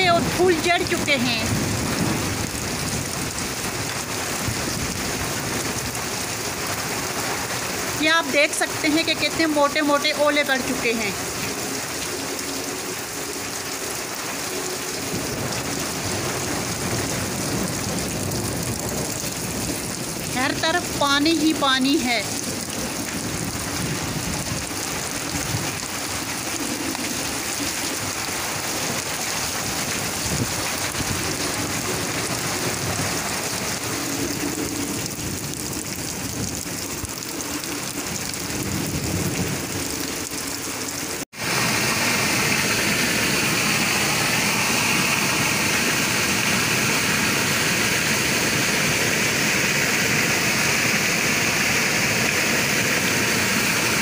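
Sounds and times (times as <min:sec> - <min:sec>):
heavy rain pouring: 0:00.0 - 0:54.0
runoff water flowing: 0:00.0 - 0:54.0
rush of floodwater: 0:00.0 - 0:54.0.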